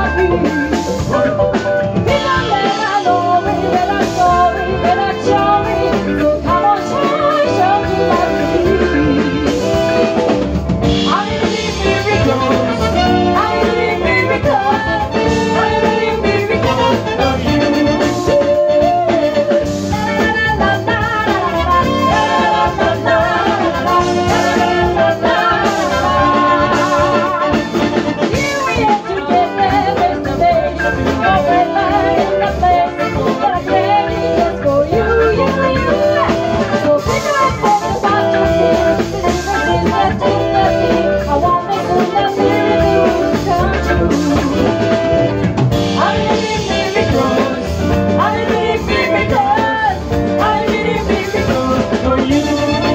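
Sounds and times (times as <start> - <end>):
woman singing: 0.0 - 10.2, 10.9 - 52.9
horns playing: 0.0 - 50.6
live band playing: 0.0 - 52.9.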